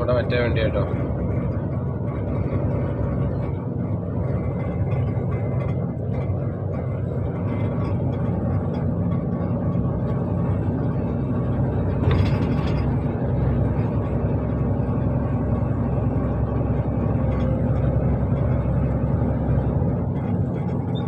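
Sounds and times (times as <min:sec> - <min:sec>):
lorry diesel engine rumble: 0:00.0 - 0:21.0
road noise: 0:00.0 - 0:21.0.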